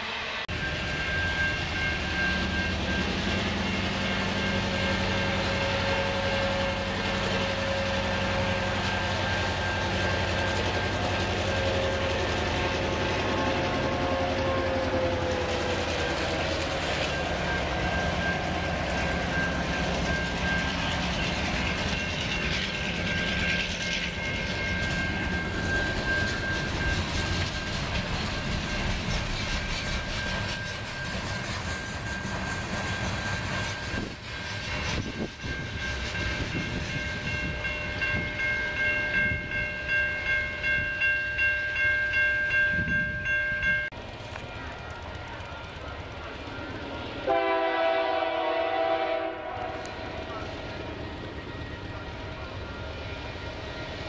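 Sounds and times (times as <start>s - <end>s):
rail machine engine hum and whine: 0.0s - 54.0s.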